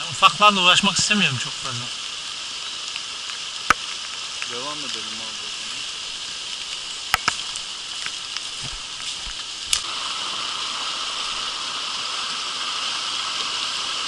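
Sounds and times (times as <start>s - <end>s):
rain: 0.0s - 14.0s
stream running over stones: 0.0s - 14.0s.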